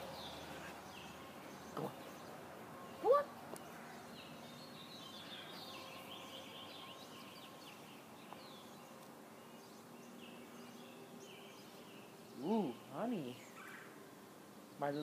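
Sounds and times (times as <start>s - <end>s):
low steady hiss: 0.0s - 15.0s
small birds chirping: 0.0s - 15.0s.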